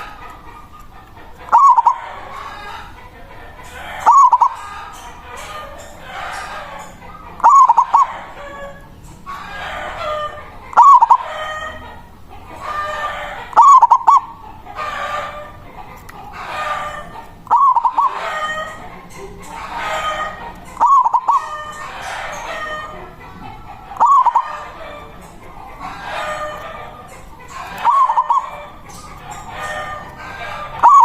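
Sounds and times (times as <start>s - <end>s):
hoarse bird calls: 0.0s - 3.0s, 3.6s - 31.0s
dove cooing: 0.0s - 31.0s.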